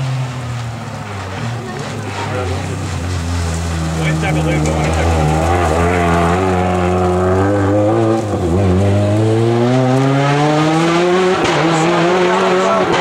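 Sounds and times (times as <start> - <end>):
rally car engine revving hard: 0.0 - 13.0.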